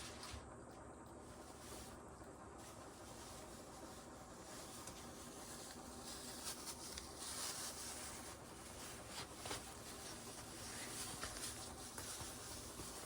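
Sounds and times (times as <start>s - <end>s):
quiet room hiss: 0.0s - 13.0s.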